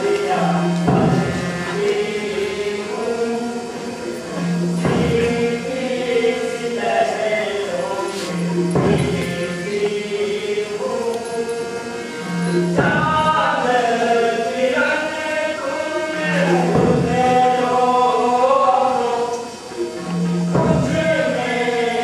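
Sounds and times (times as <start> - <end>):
chant-like singing: 0.0 - 22.0.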